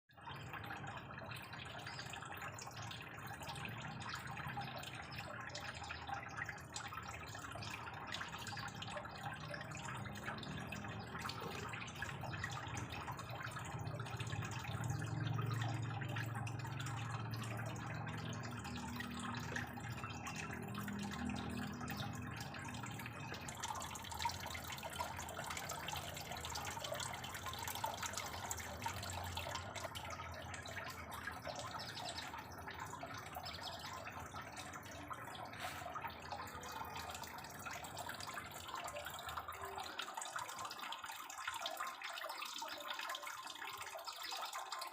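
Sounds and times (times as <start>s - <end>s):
water trickling and dripping: 0.1s - 44.9s.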